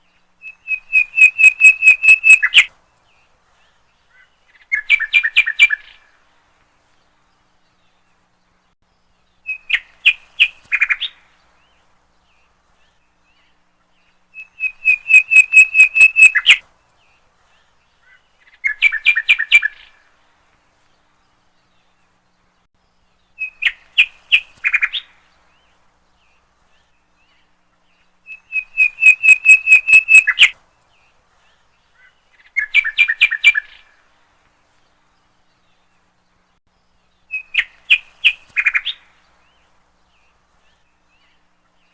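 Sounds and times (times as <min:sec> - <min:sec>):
bird chirping: 0:00.0 - 0:20.2, 0:20.8 - 0:34.1, 0:34.7 - 0:41.9.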